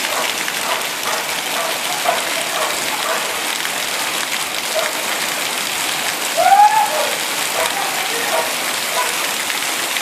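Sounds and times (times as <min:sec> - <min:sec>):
rain falling on surfaces: 0:00.0 - 0:10.0.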